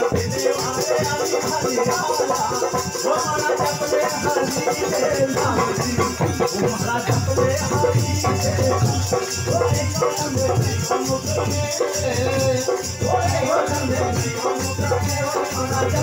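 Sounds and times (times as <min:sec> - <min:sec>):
man singing through microphone: 0:00.0 - 0:16.0
rattling shaker percussion: 0:00.0 - 0:16.0.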